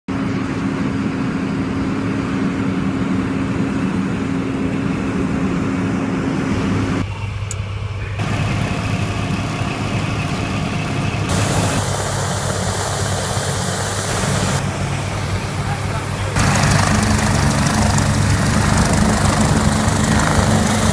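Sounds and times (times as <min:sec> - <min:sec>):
heavy vehicle engines idling: 0:00.1 - 0:20.9
helicopter turbine engine running: 0:00.1 - 0:20.9.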